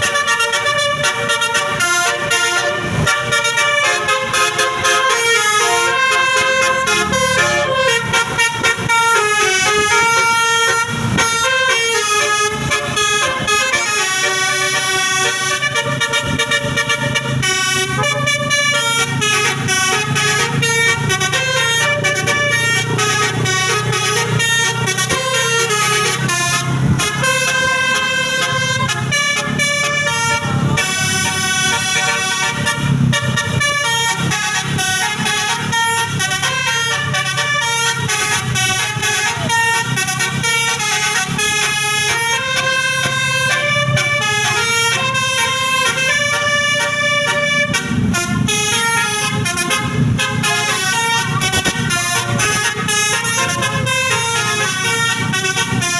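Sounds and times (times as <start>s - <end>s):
multi-tone bus horn melody: 0.0s - 55.9s.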